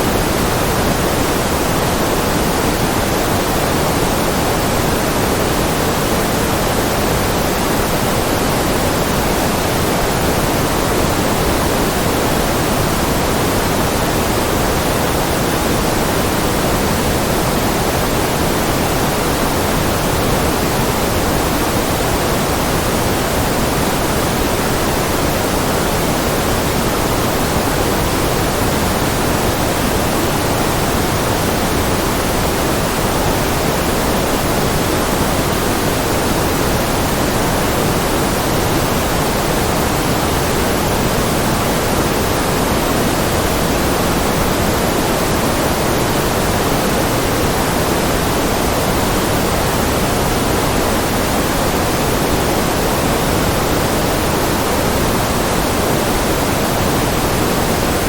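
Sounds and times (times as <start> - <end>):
white noise: 0.0 - 58.0.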